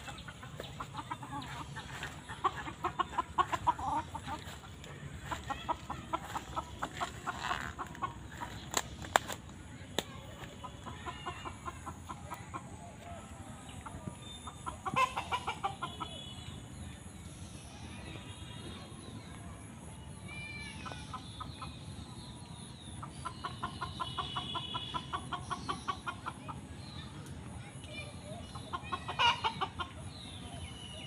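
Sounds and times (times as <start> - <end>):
chickens clucking: 0.0 - 17.2, 20.8 - 31.0.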